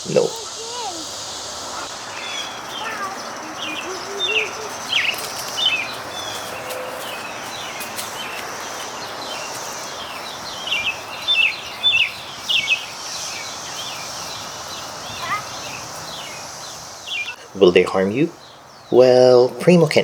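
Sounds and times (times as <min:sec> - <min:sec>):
cicadas droning: 0:00.0 - 0:20.0
songbirds chirping: 0:00.0 - 0:20.0.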